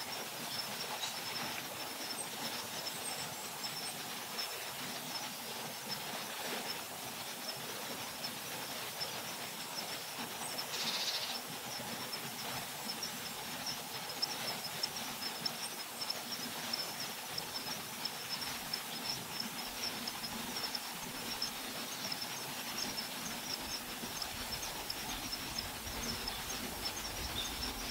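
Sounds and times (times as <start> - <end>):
soft noisy background: 0.0 - 27.9.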